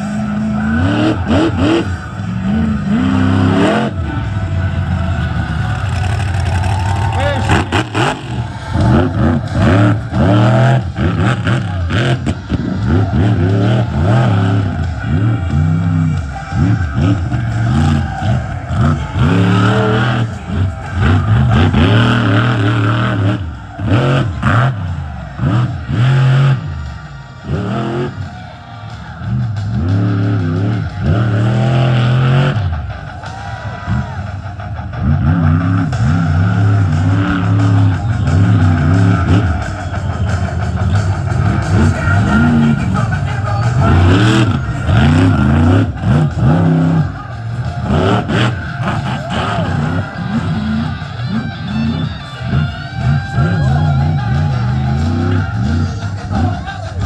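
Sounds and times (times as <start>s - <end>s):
background music: 0.0s - 57.0s
monster truck engine revving: 0.0s - 57.0s.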